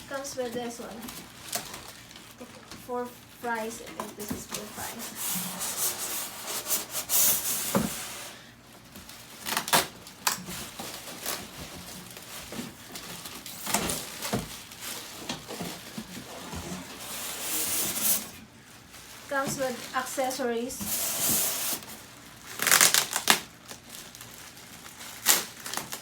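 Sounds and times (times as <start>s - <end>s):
packaging rustling: 0.4s - 26.0s.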